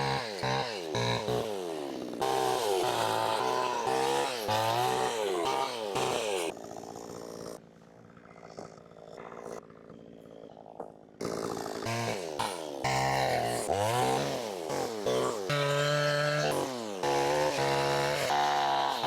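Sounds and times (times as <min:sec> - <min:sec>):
chainsaw engine revving: 0:00.0 - 0:07.7, 0:11.2 - 0:19.0.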